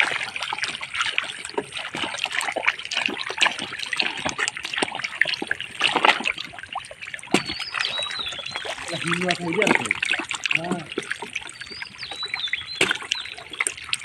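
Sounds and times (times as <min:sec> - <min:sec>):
fish flapping and splashing in mud: 0:00.0 - 0:14.0.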